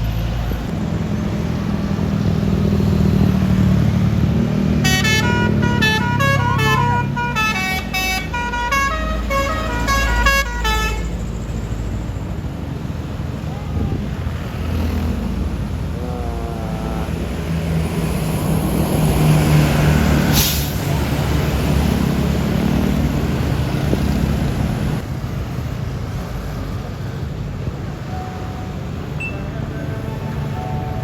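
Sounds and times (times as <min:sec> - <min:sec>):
bus engine passing: 0:00.0 - 0:31.0.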